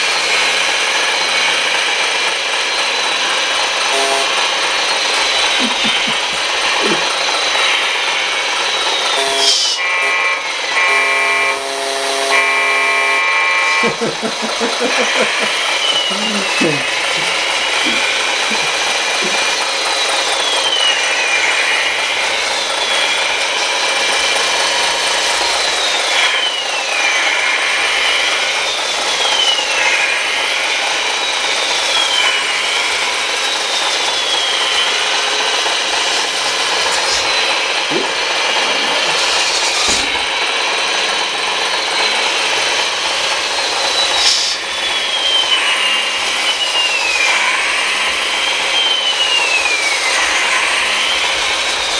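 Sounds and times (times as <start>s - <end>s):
electric motors whining: 0.0s - 51.9s
grinding rasping noise: 0.0s - 51.9s.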